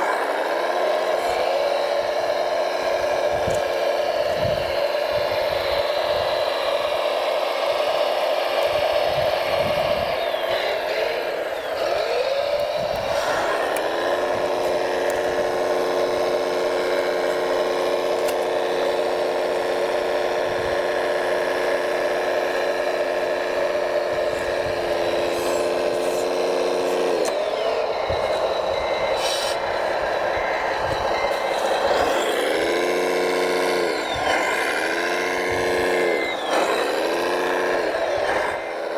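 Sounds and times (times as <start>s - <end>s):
model truck motor whine: 0.0s - 38.9s.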